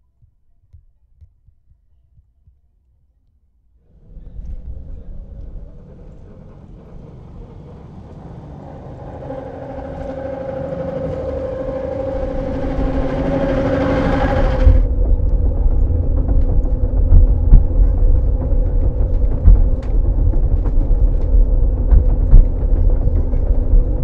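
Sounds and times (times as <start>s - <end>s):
electric train motors humming: 3.9s - 24.0s
train running noise: 3.9s - 24.0s.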